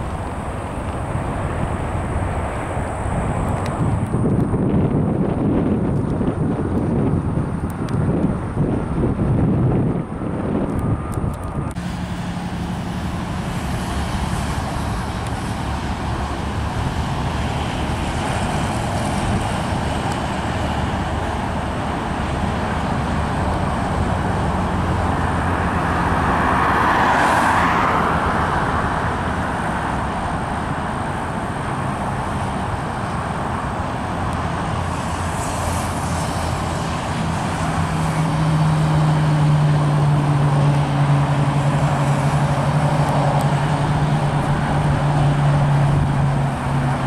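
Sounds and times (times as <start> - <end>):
engines and traffic rumble: 0.0 - 47.0
vehicle passing close: 8.1 - 47.0.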